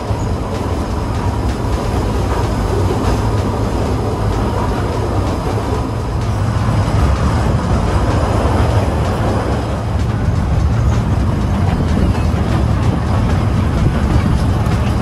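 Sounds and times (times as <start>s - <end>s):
train rumbling and rattling: 0.0s - 15.0s.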